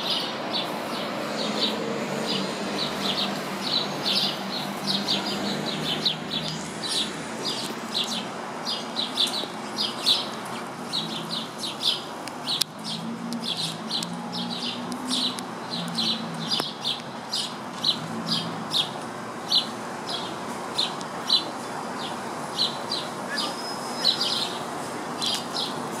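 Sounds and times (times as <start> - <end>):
sparrow chirping: 0.0 - 25.8.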